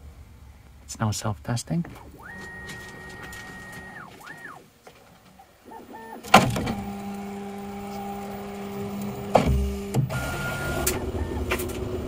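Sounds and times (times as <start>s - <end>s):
steady low hum: 0.0s - 10.2s
printer motors whining: 2.0s - 12.0s.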